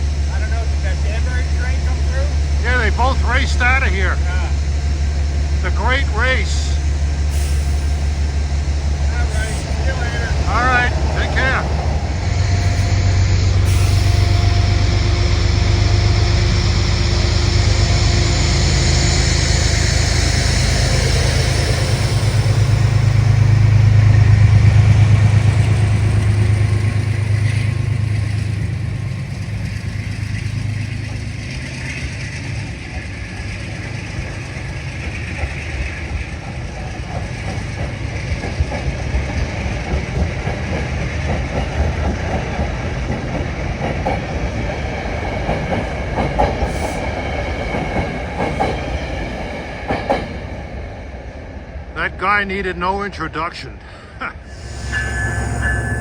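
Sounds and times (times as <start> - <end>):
train wheels clicking over rail joints: 0.0 - 50.8
train deep hum: 0.0 - 52.3, 53.7 - 56.0.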